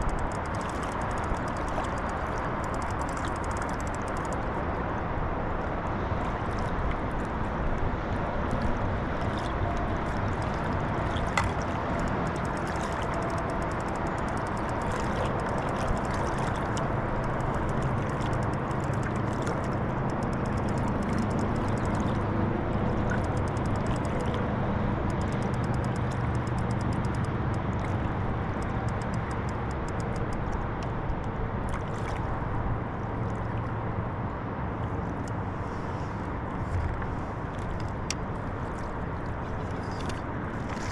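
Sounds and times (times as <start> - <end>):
steady low rumble: 0.0 - 40.9
water lapping against a hull: 0.0 - 40.9.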